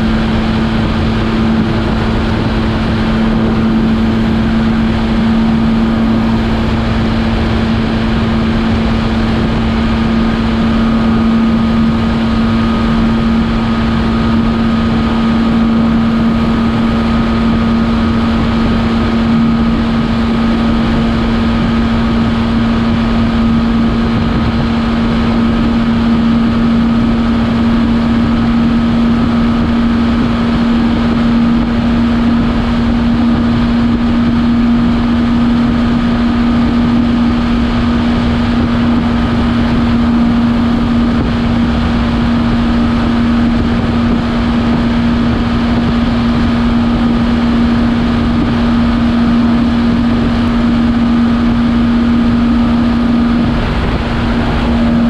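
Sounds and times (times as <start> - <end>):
motorcycle engine at full throttle: 0.0 - 55.0
wind rushing on microphone: 0.0 - 55.0.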